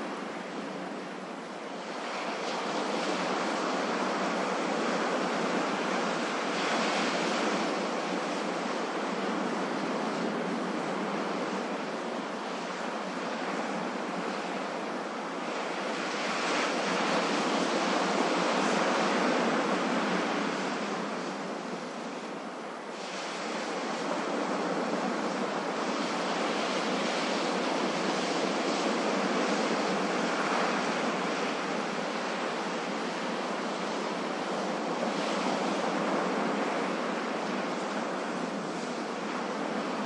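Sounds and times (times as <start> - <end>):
ocean waves washing: 0.0 - 40.0.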